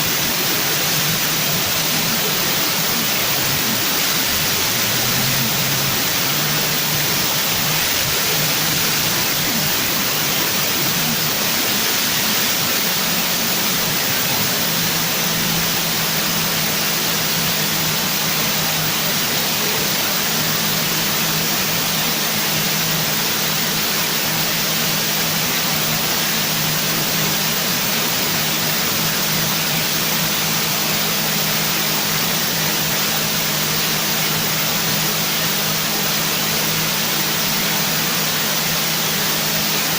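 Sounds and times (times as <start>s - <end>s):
loud steady hiss: 0.0s - 39.9s.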